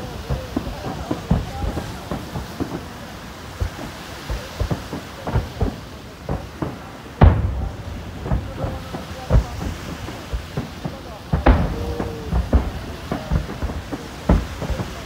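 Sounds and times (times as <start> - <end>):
firework shells bursting: 0.0 - 15.0.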